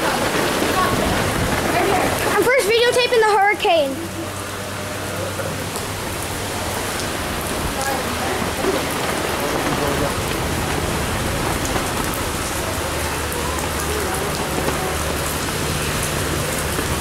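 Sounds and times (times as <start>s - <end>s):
low rush of wind: 0.0s - 17.0s
wind-driven rain hiss: 0.0s - 17.0s.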